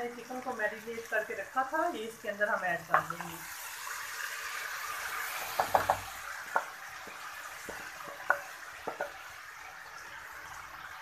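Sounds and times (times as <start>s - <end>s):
food sizzling in pot: 0.0s - 11.0s.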